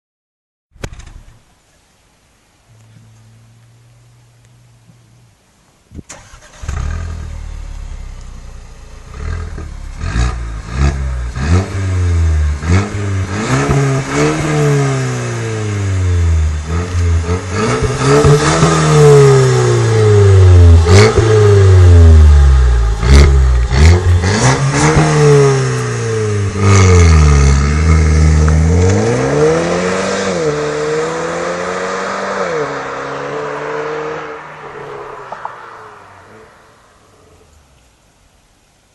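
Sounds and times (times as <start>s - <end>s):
car accelerating away: 6.1s - 37.6s
car engine revving: 6.1s - 37.6s.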